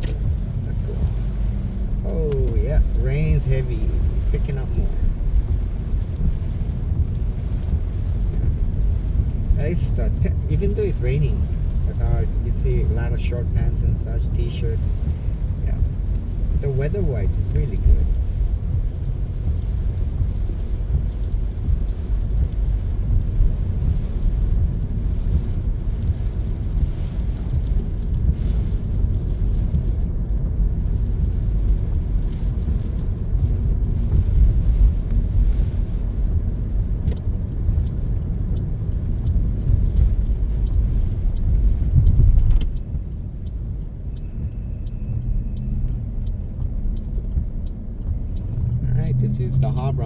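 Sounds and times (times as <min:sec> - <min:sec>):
car road rumble: 0:00.0 - 0:50.0
heavy rain: 0:00.0 - 0:50.0
tyres hissing on wet road: 0:00.0 - 0:50.0.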